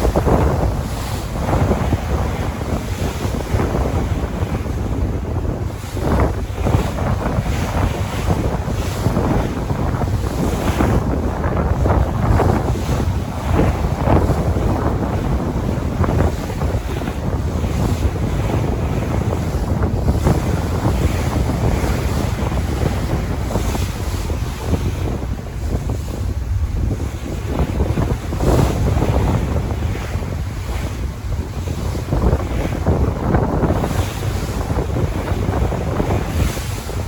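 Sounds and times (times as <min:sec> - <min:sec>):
sea waves washing: 0:00.0 - 0:37.0
wind buffeting microphone: 0:00.0 - 0:37.0.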